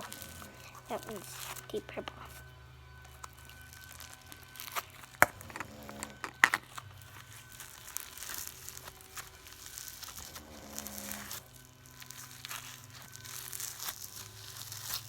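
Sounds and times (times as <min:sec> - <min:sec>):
slime being squished by hand: 0:00.0 - 0:15.0.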